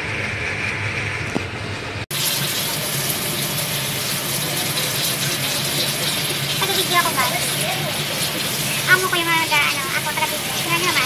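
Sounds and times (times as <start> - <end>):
tap water running into sink: 2.1 - 11.0.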